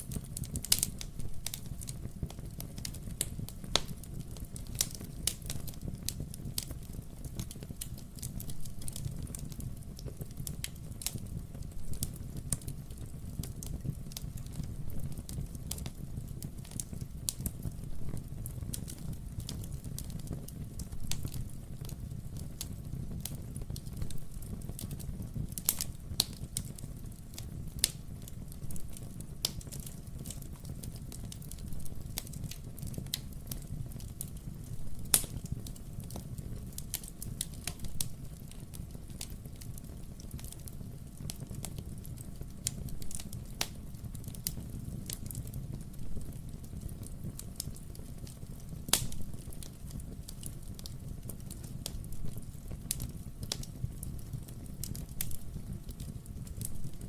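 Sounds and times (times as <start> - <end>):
crackles and pops of burning logs: 0.0 - 57.0
fire flames rumbling: 0.0 - 57.0.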